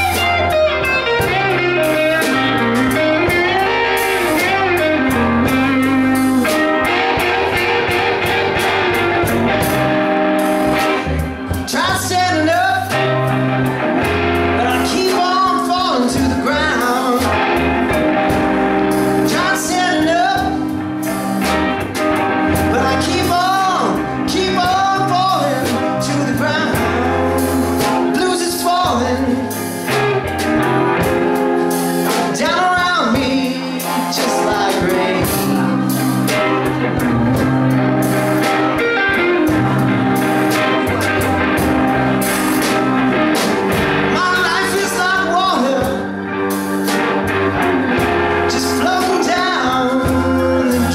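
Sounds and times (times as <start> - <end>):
electric guitar lead lines: 0.0 - 50.9
live blues band playing: 0.0 - 50.9.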